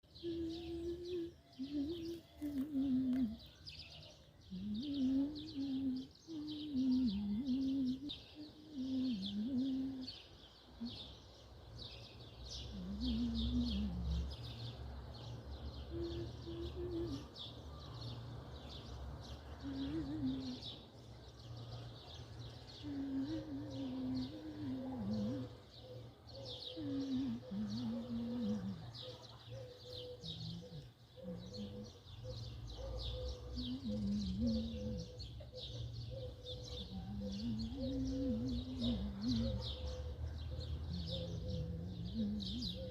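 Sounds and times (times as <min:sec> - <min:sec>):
rising and falling bird calls: 0:00.0 - 0:21.5, 0:22.1 - 0:42.9
small birds chirping: 0:00.0 - 0:42.9.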